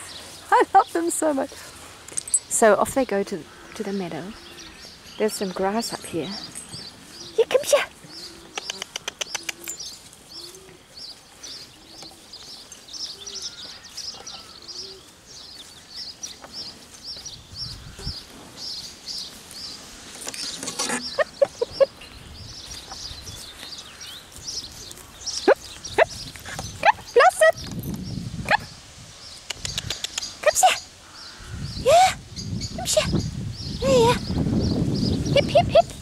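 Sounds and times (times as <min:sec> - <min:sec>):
low soft bird calls: 0:03.3 - 0:36.0
small bird chirping: 0:04.0 - 0:35.9.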